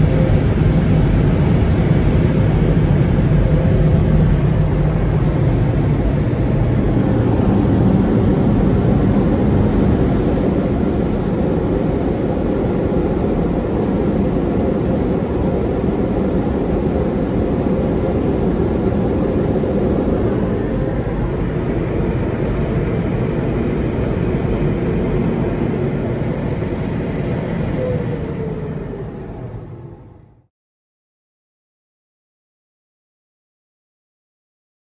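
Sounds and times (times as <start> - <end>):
car wash air dryers roaring: 0.0 - 30.5.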